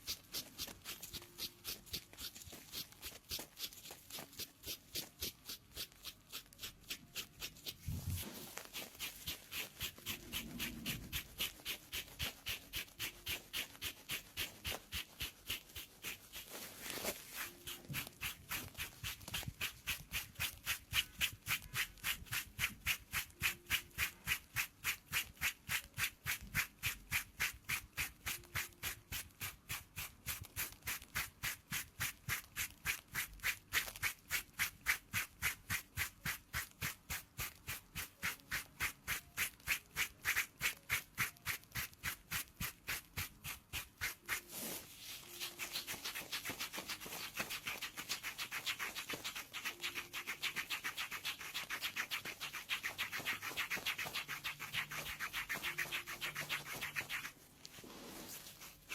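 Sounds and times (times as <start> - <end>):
scraper rasping on skin: 0.0 - 58.9.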